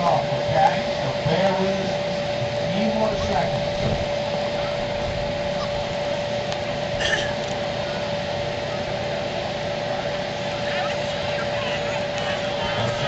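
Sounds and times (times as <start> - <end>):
electric blower humming: 0.0 - 10.6
faint crowd voices: 0.0 - 13.0.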